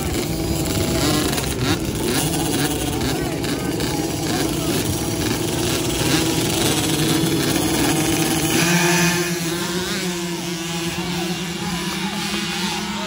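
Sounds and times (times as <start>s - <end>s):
mini dirt bikes revving: 0.0s - 13.0s.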